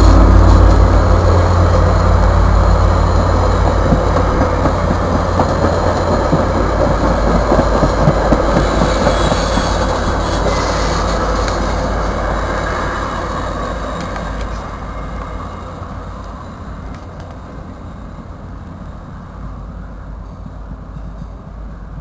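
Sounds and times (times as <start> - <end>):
train cars rumbling on rails: 0.0 - 22.0.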